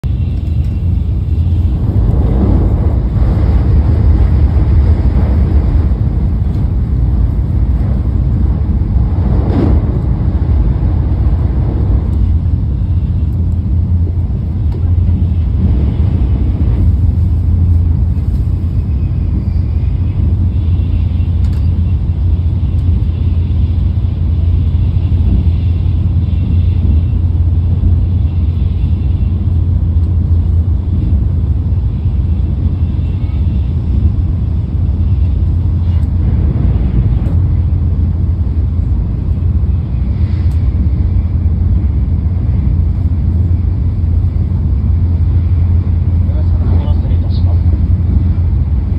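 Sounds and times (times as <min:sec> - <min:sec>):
train cabin rumble: 0:00.0 - 0:48.9.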